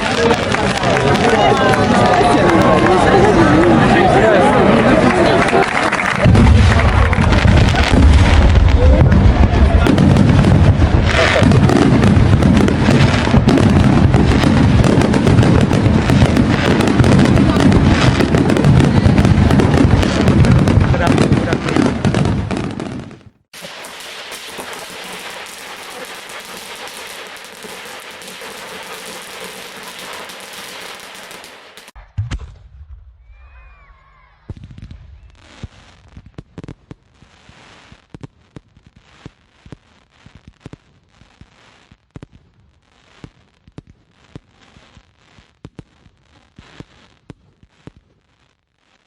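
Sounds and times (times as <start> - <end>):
fireworks crackling: 0.0 - 33.0, 34.5 - 49.0
fireworks pops and bangs: 0.0 - 33.5, 34.4 - 49.0.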